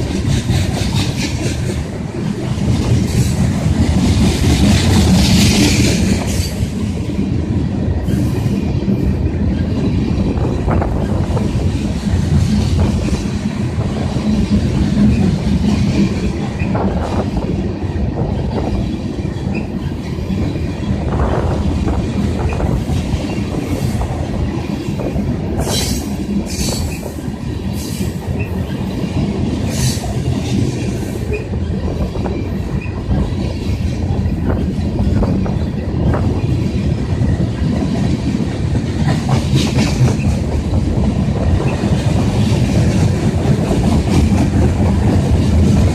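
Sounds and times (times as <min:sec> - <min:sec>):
train wheels clattering over rails: 0:00.0 - 0:45.9
wind buffeting microphone: 0:00.0 - 0:45.9.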